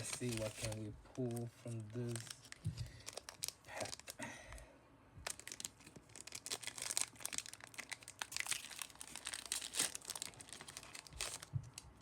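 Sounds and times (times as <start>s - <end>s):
foil wrapper crinkling and tearing: 0.0s - 4.2s, 5.2s - 12.0s.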